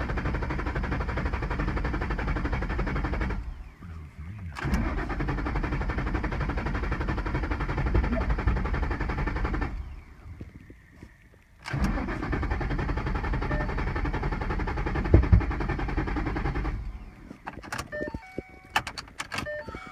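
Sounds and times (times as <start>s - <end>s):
starter motor cranking: 0.0s - 3.8s, 4.5s - 10.3s, 11.6s - 18.2s.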